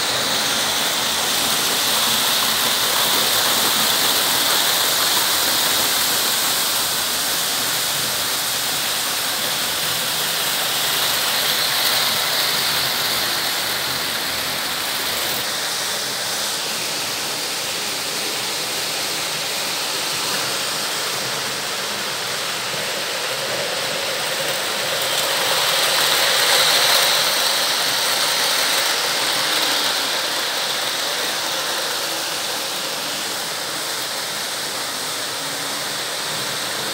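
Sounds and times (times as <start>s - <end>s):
model train wheels rattling on track: 0.0s - 36.9s.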